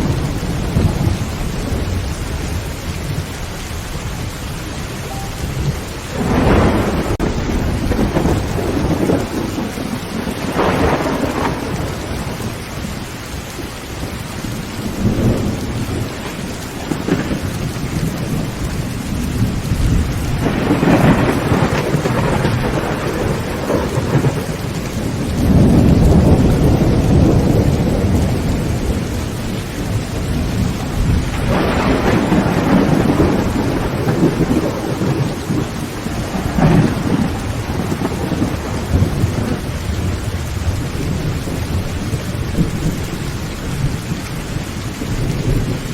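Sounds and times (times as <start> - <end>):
heavy rain on tin roof: 0.0 - 45.9
thunder rumbling: 0.0 - 45.9.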